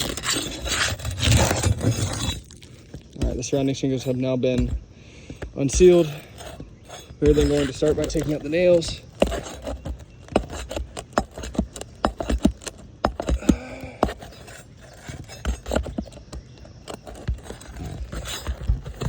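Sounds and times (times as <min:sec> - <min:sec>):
scraping on shingles: 0:00.0 - 0:19.0.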